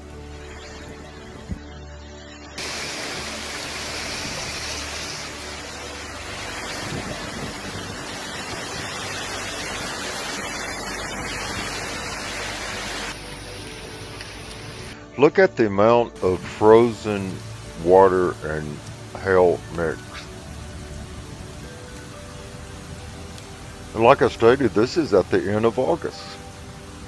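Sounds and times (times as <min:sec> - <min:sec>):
faint background music: 0:00.0 - 0:27.0
hail and rain pelting down: 0:02.6 - 0:15.0, 0:16.3 - 0:27.0.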